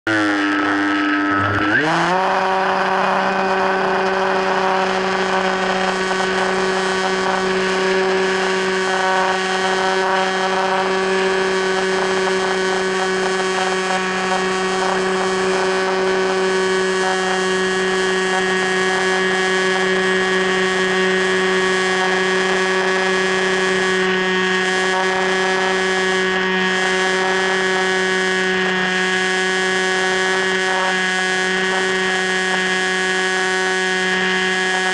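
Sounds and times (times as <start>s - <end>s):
model plane propeller buzzing: 0.1s - 34.9s.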